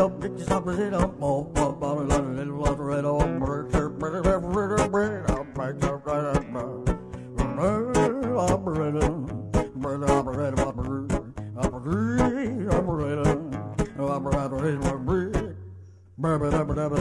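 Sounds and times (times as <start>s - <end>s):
background music with guitar: 0.0s - 17.0s.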